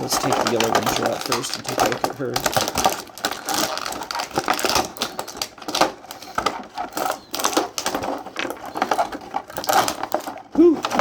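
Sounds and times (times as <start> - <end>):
plastic packaging crackling: 0.0 - 11.0.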